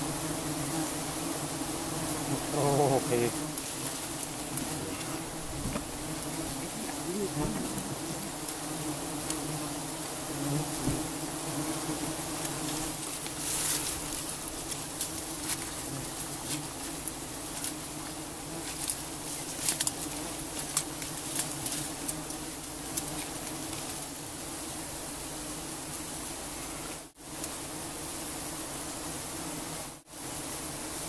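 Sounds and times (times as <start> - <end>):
bee colony buzzing: 0.0 - 31.0.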